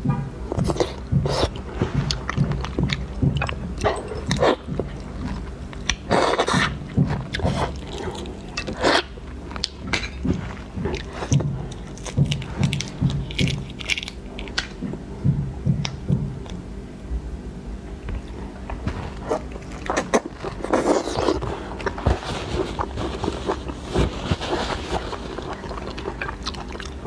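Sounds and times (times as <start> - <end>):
wet chewing and crunching: 0.5 - 15.1, 18.1 - 27.0.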